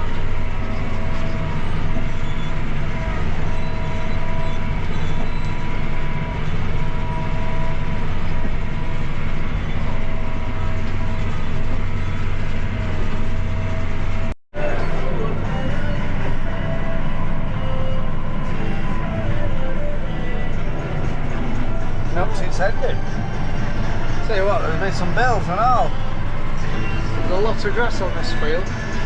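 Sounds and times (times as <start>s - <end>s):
tractor engine running under load: 0.0s - 29.0s.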